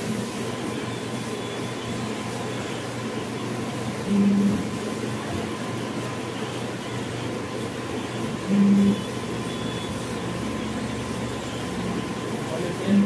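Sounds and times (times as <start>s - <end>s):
printer carriage whirring: 0.0s - 13.0s.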